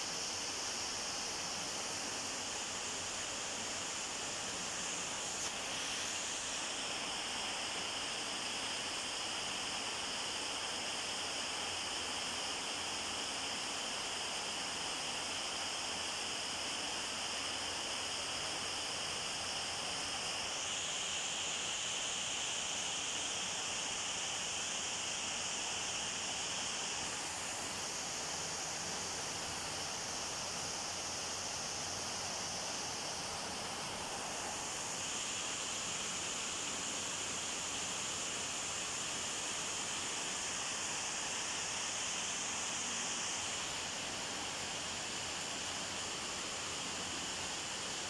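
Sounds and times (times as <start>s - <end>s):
steady night background hiss: 0.0s - 48.0s.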